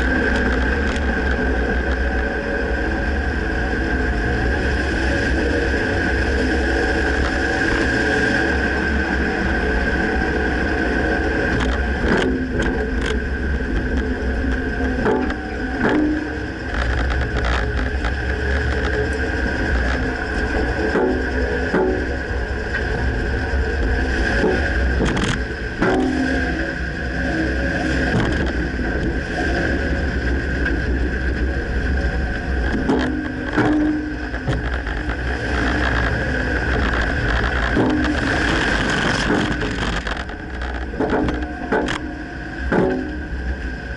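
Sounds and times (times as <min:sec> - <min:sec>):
pickup truck rumbling: 0:00.0 - 0:43.9.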